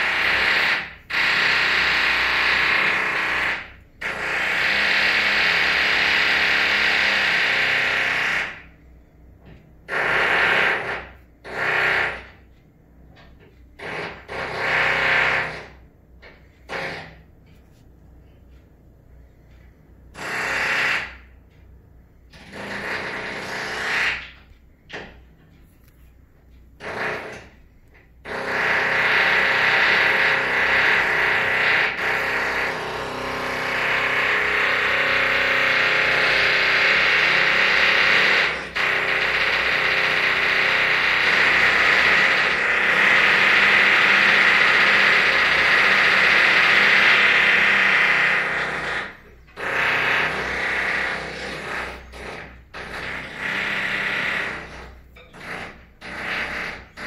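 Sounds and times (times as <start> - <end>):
power drill bursts: 0.0 - 8.7, 9.9 - 12.4, 13.8 - 15.8, 16.6 - 17.2, 20.1 - 21.3, 22.3 - 24.4, 26.8 - 27.6, 28.2 - 57.0.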